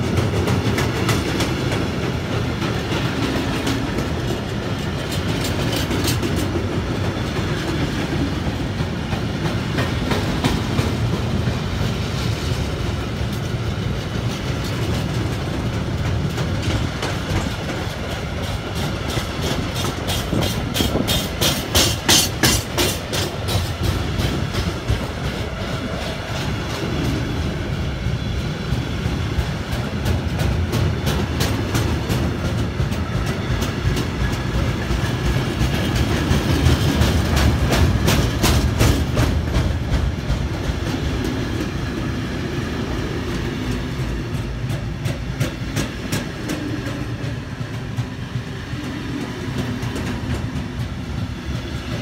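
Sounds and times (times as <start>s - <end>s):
train wheels rumbling on rail: 0.0s - 52.0s
wheels clickety-clack: 0.0s - 52.0s.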